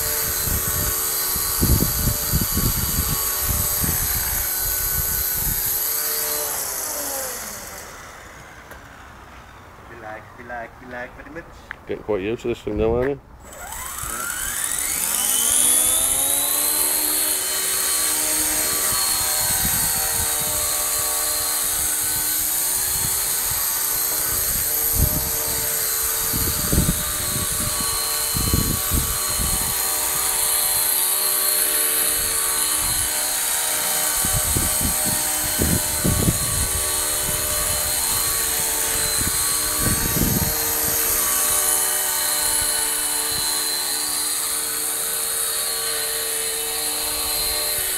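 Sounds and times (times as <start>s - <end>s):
model helicopter rotor whine: 0.0s - 11.0s, 12.2s - 47.9s.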